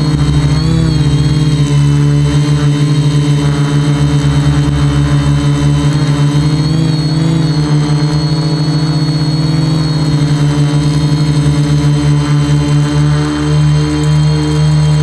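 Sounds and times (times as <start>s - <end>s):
quadcopter buzzing hum: 0.0s - 15.0s.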